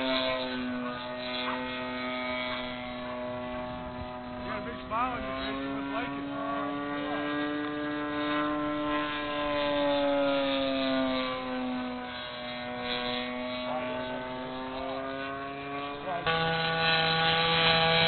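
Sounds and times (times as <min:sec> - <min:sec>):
model plane engine drone: 0:00.0 - 0:18.0.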